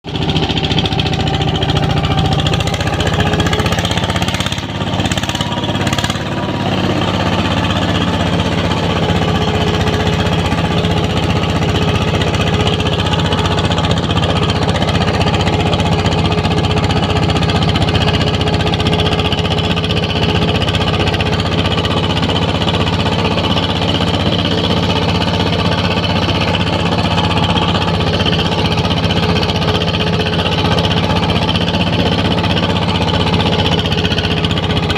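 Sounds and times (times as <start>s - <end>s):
tractor diesel engine chugging: 0.0s - 34.9s.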